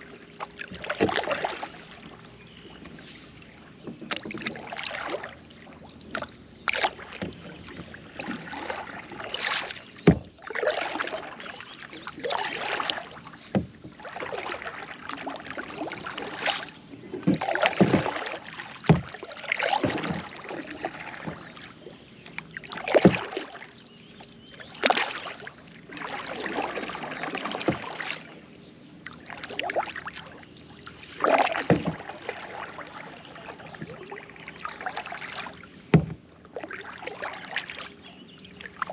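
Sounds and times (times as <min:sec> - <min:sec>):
paddle splashing through water: 0:00.0 - 0:38.9.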